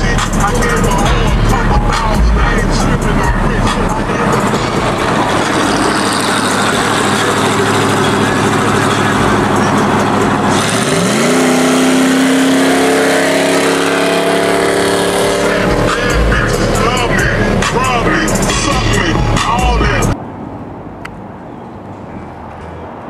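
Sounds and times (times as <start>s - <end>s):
car engine revving: 0.0s - 20.2s
road noise: 0.0s - 23.0s.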